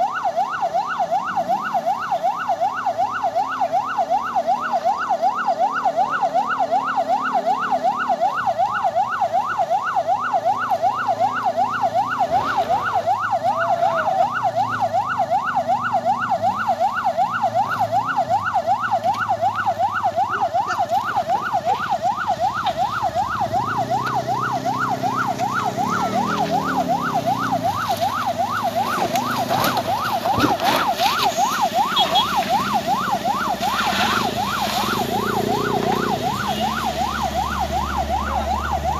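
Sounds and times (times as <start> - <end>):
electronic siren sweeping: 0.0 - 38.9
vehicle engines labouring: 0.0 - 38.9.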